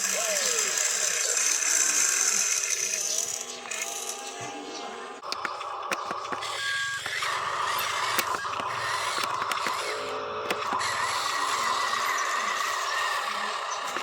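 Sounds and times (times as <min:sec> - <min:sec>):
toy electric motor whining: 0:00.0 - 0:14.0.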